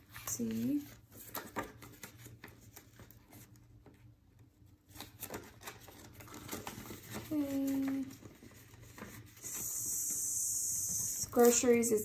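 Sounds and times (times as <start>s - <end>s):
banknotes and plastic crinkling: 0.0s - 3.8s, 4.8s - 12.0s.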